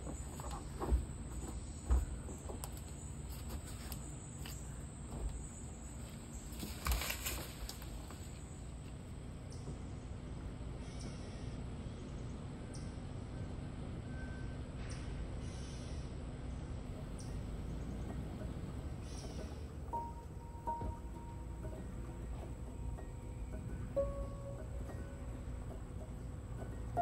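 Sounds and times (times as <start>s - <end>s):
low city background rumble: 0.0s - 27.0s.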